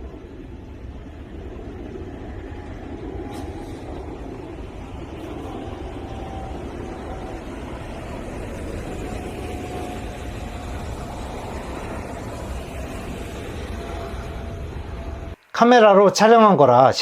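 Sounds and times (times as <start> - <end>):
airplane flying overhead: 0.0 - 15.4
faint engine whine: 0.0 - 15.5.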